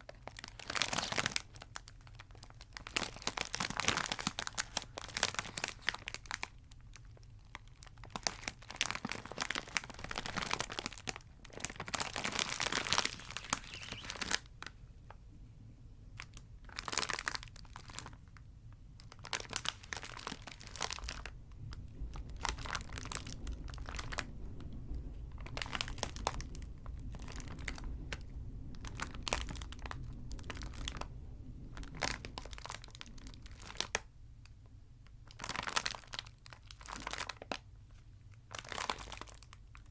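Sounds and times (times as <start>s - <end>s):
wrappers crinkling: 0.0s - 15.2s, 16.2s - 18.4s, 19.0s - 31.1s, 31.7s - 34.1s, 35.2s - 39.9s.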